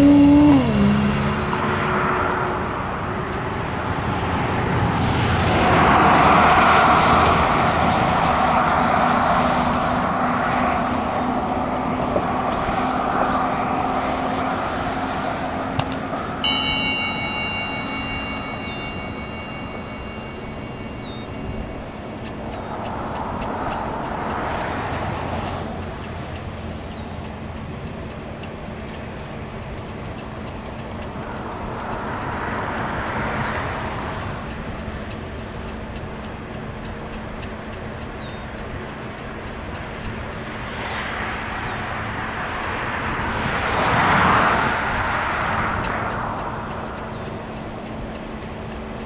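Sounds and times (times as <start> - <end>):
vehicles passing by: 0.0 - 49.0.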